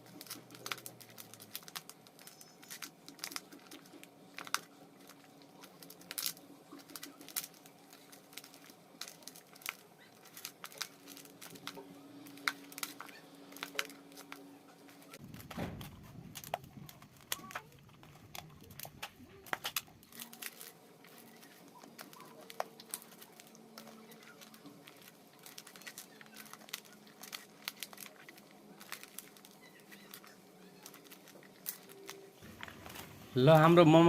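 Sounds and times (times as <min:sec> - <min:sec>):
hands squishing meat filling: 0:00.0 - 0:33.3
small clicks and crinkles: 0:00.0 - 0:33.9.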